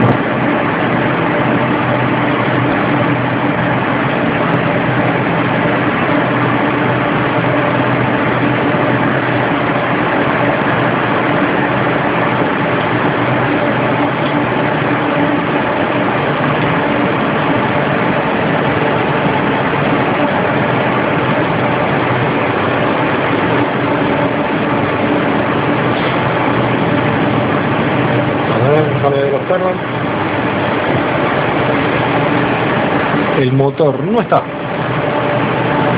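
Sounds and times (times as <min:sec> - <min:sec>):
machinery hum: 0:00.0 - 0:35.9.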